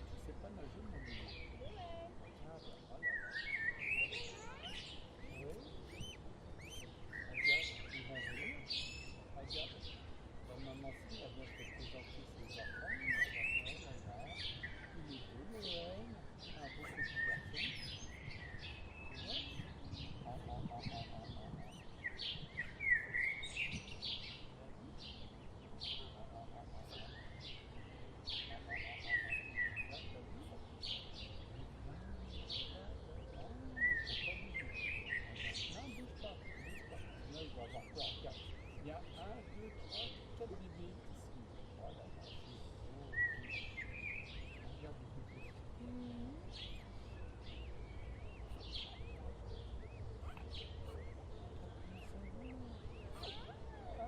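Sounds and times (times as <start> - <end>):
low outdoor rumble: 0.0 - 54.0
small birds chirping: 0.0 - 54.0.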